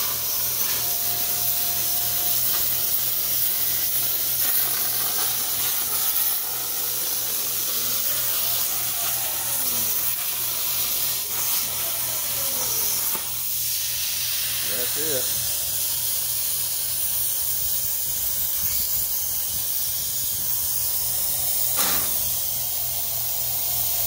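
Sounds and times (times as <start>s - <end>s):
plasma arc hissing: 0.0s - 24.0s.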